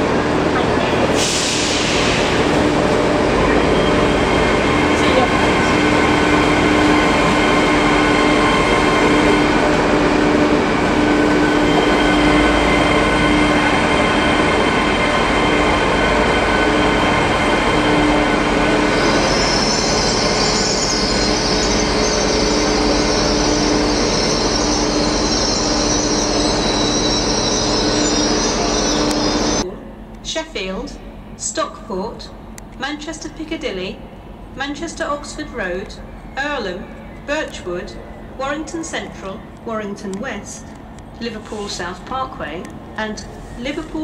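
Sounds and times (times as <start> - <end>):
passenger train passing: 0.0 - 44.0
steady train whine: 0.0 - 44.0.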